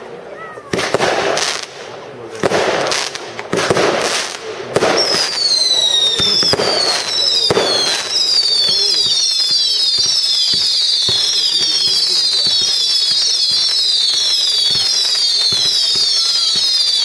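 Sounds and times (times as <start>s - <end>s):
firework cracks and bangs: 0.7s - 17.0s
whistling firework shots: 0.7s - 17.0s.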